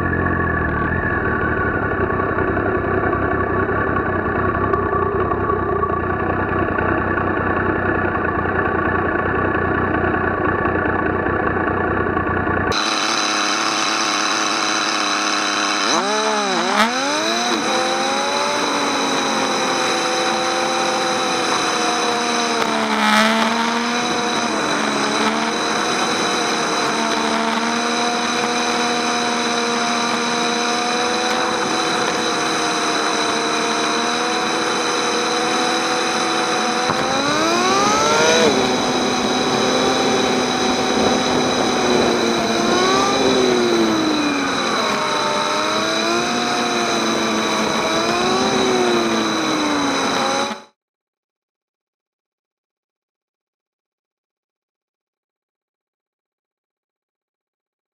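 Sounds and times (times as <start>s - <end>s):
tyres on wet road: 0.0s - 50.7s
motorcycle engine: 0.0s - 50.8s.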